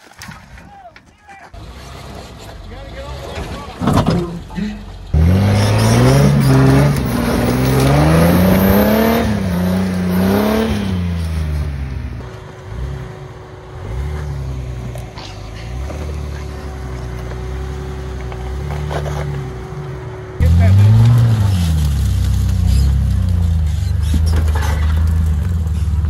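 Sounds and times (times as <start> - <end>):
vehicle engine revving: 1.6 - 26.0.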